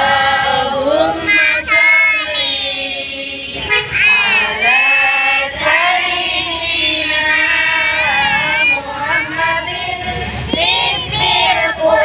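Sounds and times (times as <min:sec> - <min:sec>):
children and women singing: 0:00.0 - 0:12.0.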